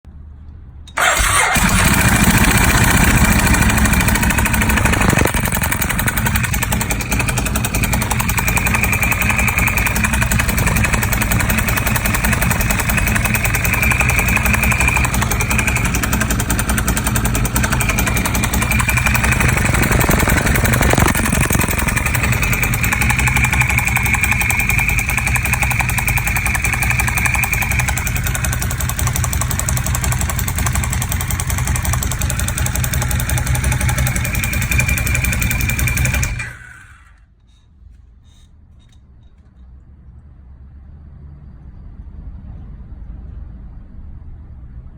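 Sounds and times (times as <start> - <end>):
motorcycle engine running: 1.0 - 37.2.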